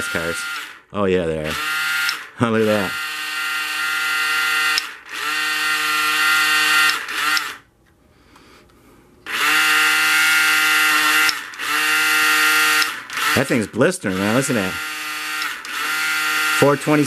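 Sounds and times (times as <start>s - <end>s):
small electric motor whining: 0.0s - 0.8s, 1.4s - 7.7s, 9.3s - 17.0s.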